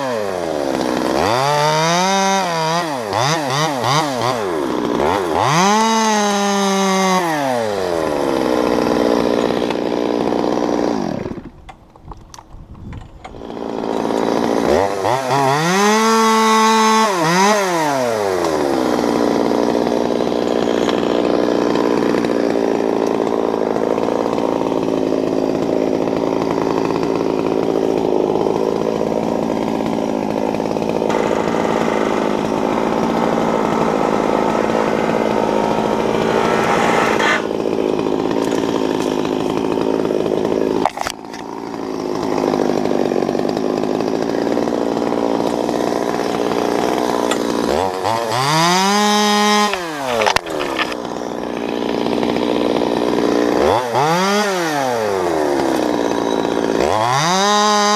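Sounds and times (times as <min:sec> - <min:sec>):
chainsaw revving and idling: 0:00.0 - 0:57.9.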